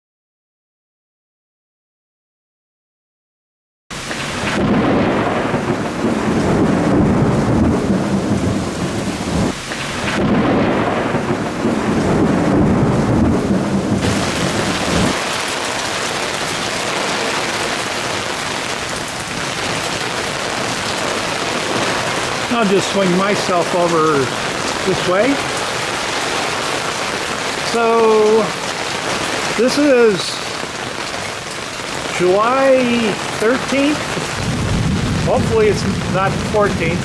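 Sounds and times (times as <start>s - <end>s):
heavy rain pouring: 3.9s - 37.0s.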